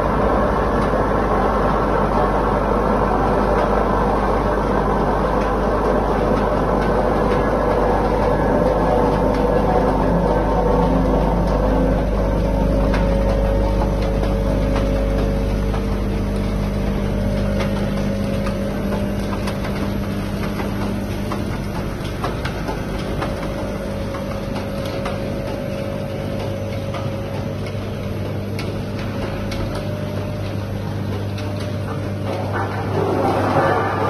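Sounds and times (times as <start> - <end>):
machine hum: 0.0 - 34.0
machine clicks and knocks: 5.2 - 34.0.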